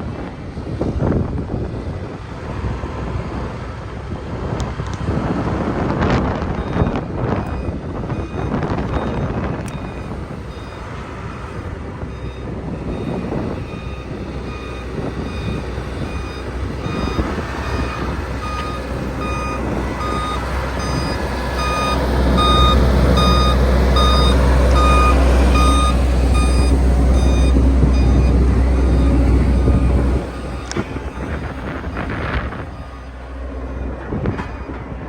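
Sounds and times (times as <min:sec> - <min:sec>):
diesel engine rumbling: 0:00.0 - 0:35.0
back-up alarm beeping: 0:06.1 - 0:34.8.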